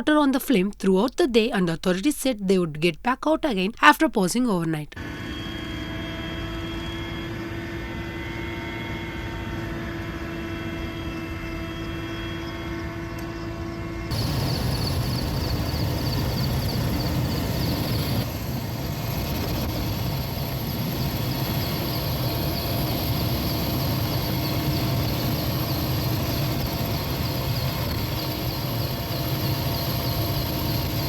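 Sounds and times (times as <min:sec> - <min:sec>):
aircraft engines flying over: 0:05.0 - 0:31.0.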